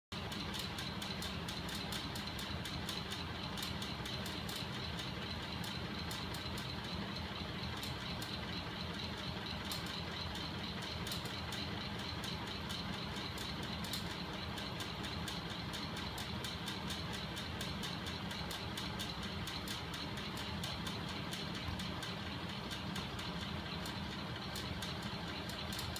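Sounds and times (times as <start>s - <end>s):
mechanical whir: 0.2s - 25.9s
sharp clicks from linkage: 0.2s - 25.9s.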